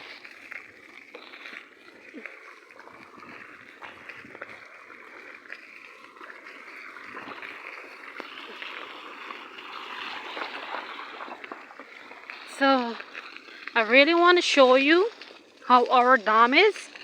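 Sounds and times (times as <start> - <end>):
watery hiss: 0.0 - 17.0.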